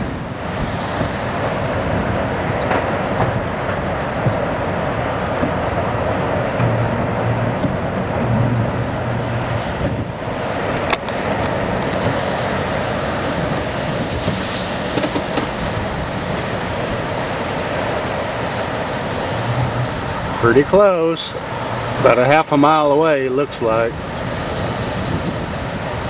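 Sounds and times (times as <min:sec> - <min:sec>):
strong wind roaring: 0:00.0 - 0:26.0.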